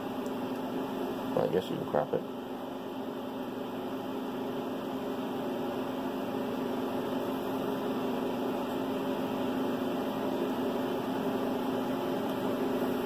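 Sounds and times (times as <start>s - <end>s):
steady mechanical hum with hiss: 0.0s - 13.0s.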